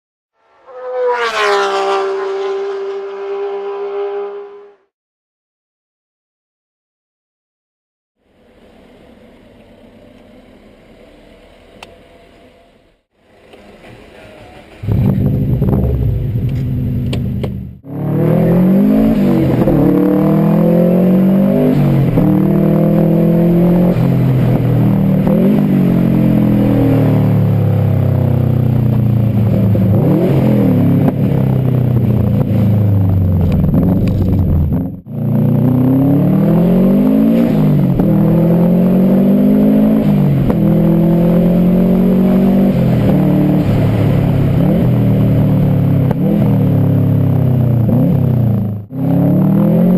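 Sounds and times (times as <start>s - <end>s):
car engine revving: 0.4s - 4.9s, 13.2s - 49.9s.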